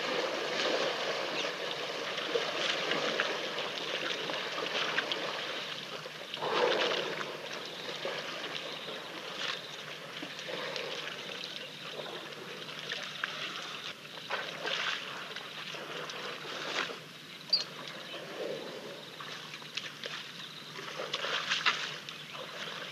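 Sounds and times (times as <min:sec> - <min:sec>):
water splashing and trickling: 0:00.0 - 0:18.3, 0:19.0 - 0:22.9.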